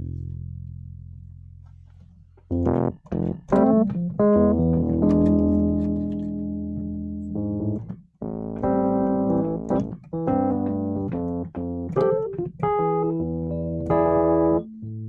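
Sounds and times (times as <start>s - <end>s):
electric piano chords: 2.5s - 15.0s.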